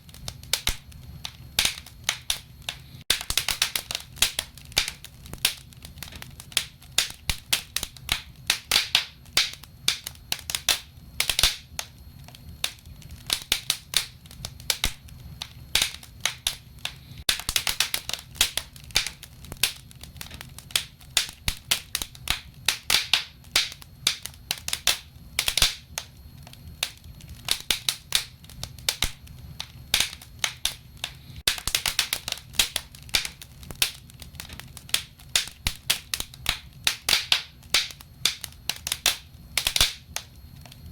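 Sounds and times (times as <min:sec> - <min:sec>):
burning logs crackling and popping: 0:00.0 - 0:40.9
low rumble of flames: 0:00.0 - 0:40.9.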